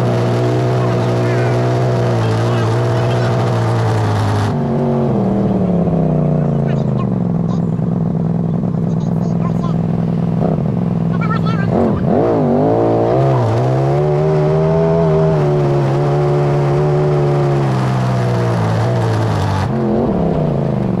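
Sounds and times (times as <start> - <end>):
utility vehicle engine: 0.0 - 21.0.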